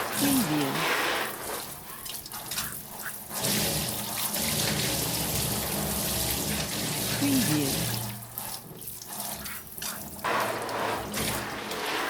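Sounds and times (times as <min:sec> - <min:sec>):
shower running: 0:00.0 - 0:12.0.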